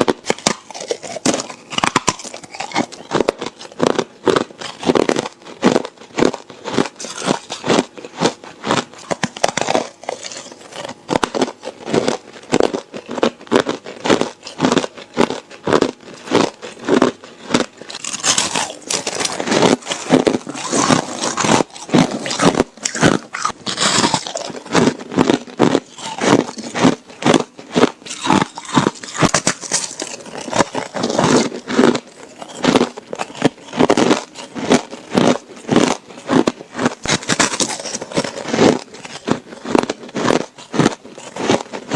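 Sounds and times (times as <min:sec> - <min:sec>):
person crunching ice: 0:00.0 - 0:41.9.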